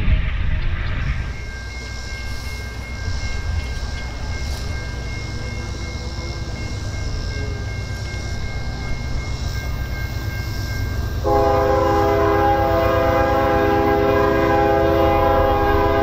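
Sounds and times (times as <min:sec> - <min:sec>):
freight train rumbling: 0:00.0 - 0:16.0
high-pitched tones: 0:00.6 - 0:16.0.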